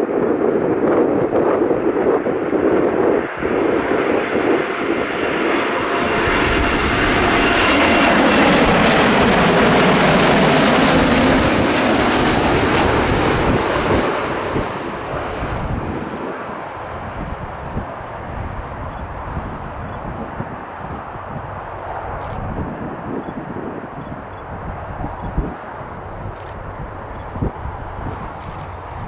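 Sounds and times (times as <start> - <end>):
aircraft engines passing: 0.0 - 29.0
wind buffeting microphone: 0.0 - 29.0.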